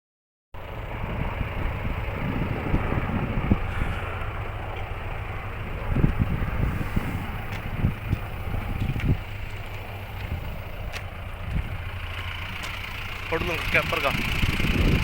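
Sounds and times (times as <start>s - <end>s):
helicopter running: 0.6s - 15.0s.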